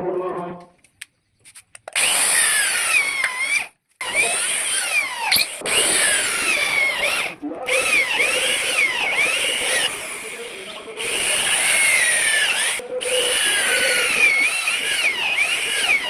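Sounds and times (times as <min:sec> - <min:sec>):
power tool motor whine on wood: 0:02.0 - 0:16.0.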